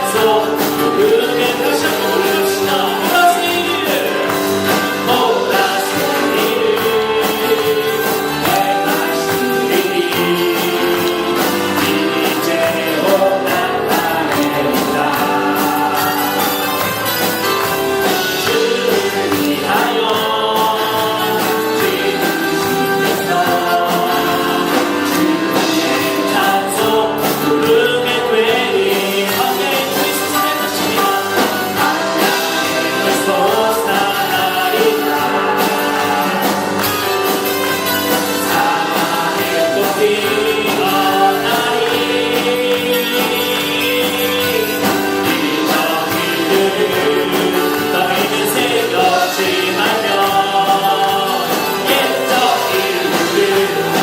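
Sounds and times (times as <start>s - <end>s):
accompanying instruments: 0.0s - 54.0s
congregation and choir singing: 0.0s - 54.0s.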